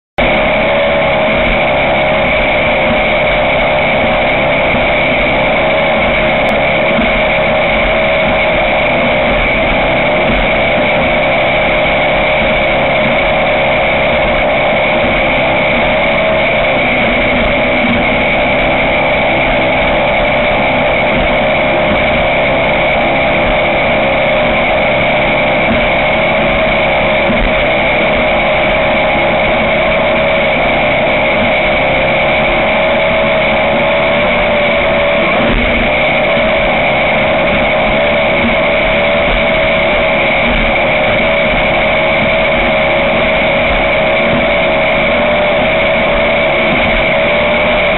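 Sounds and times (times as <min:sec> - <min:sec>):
boat engine running: 0:00.1 - 0:47.9
high whine: 0:00.2 - 0:47.9.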